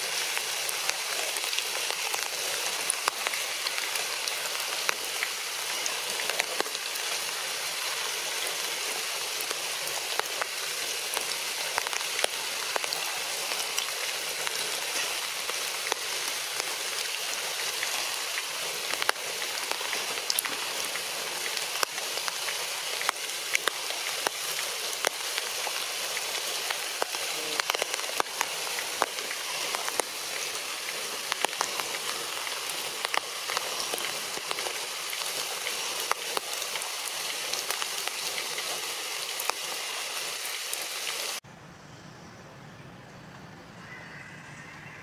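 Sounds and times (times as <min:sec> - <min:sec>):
crackling hiss with sharp ticks: 0:00.0 - 0:41.4.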